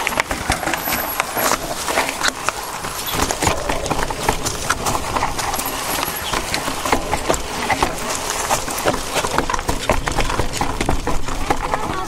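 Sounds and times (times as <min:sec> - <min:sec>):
bike clattering over rough trail: 0:00.0 - 0:12.0.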